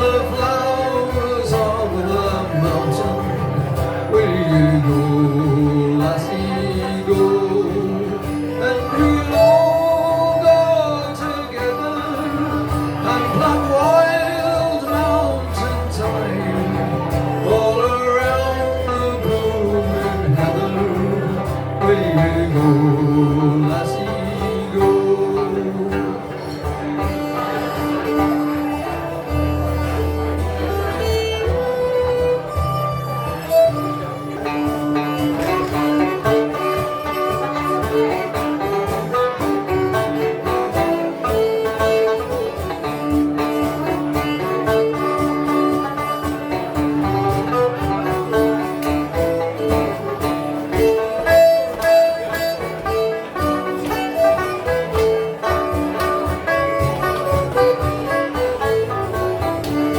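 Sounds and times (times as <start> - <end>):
banjo: 0.0 - 59.9
twelve-string guitar: 0.0 - 59.9.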